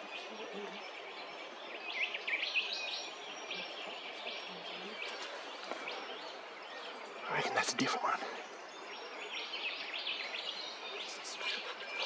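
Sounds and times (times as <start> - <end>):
steady outdoor hiss: 0.0 - 12.0
wild birds chirping: 0.0 - 12.0.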